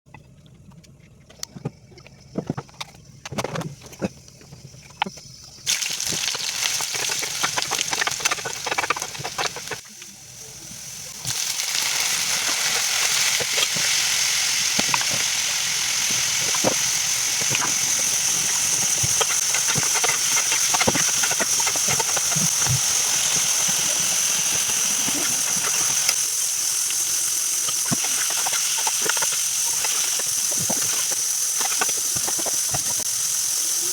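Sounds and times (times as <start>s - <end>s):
vegetables sizzling in hot oil: 5.5s - 33.9s.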